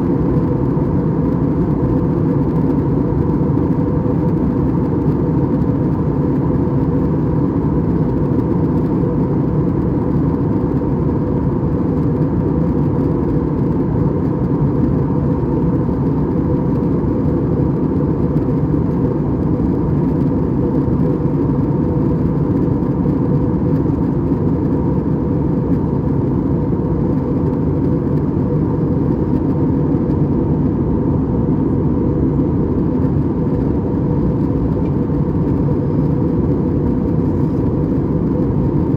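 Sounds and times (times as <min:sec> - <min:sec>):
airliner cabin noise: 0:00.0 - 0:38.9
faint steady hum: 0:00.0 - 0:38.9.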